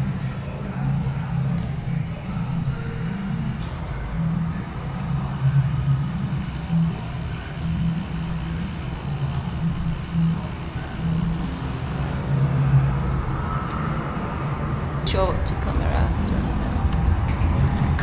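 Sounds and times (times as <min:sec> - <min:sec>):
tattoo machine buzzing: 0:00.0 - 0:15.0.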